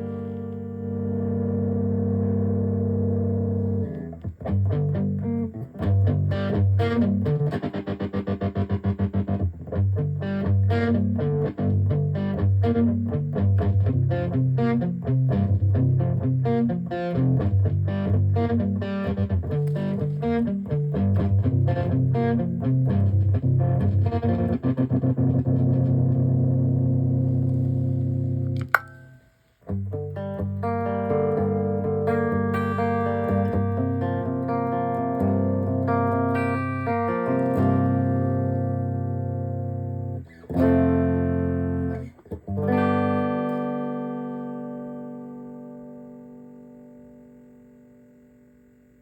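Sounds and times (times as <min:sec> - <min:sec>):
overdriven electric guitar: 0:00.0 - 0:49.0.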